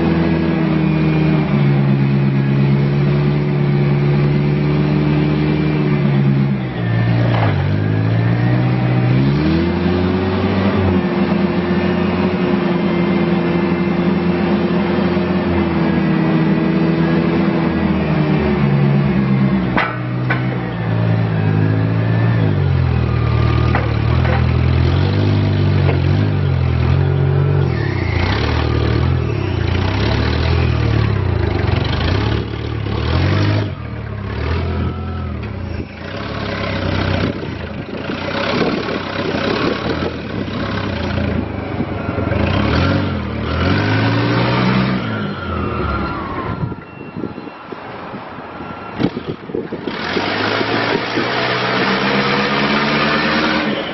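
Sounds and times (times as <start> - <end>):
forklift engine revving: 0.0 - 46.8, 48.4 - 53.9.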